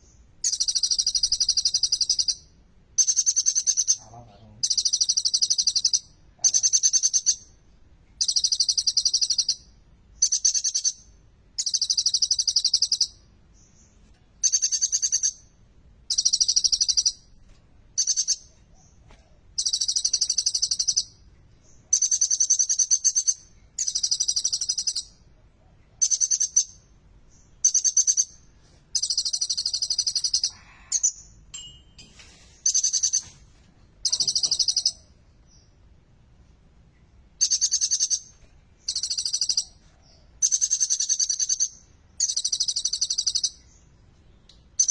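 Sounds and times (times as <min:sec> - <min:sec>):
bird singing rapid trills: 0:00.0 - 0:07.6, 0:08.2 - 0:15.5, 0:16.1 - 0:17.3, 0:18.0 - 0:19.0, 0:19.6 - 0:25.3, 0:26.0 - 0:32.0, 0:34.0 - 0:35.8, 0:37.4 - 0:44.0.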